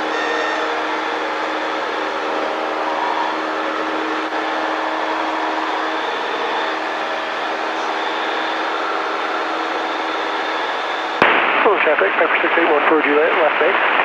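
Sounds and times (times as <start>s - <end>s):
airplane engine and propeller drone: 0.0s - 14.0s.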